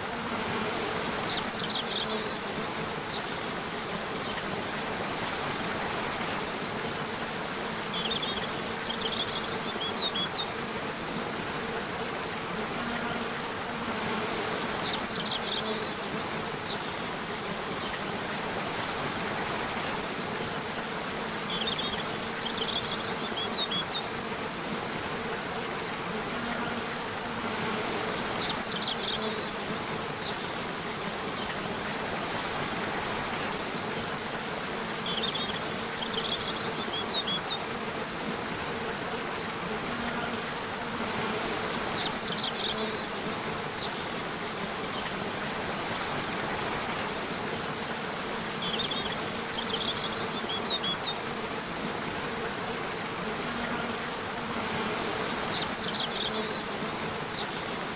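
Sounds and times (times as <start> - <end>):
even hiss: 0.0 - 57.9
insects buzzing: 0.0 - 57.9.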